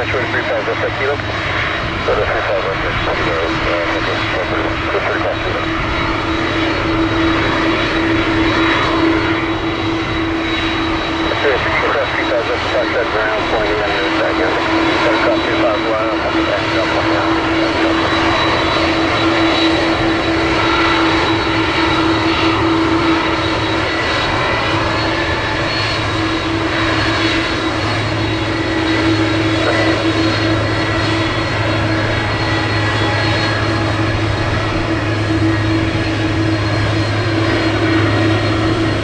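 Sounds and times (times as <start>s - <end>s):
airliner engines running: 0.0s - 39.0s
steady engine whine: 0.0s - 39.0s.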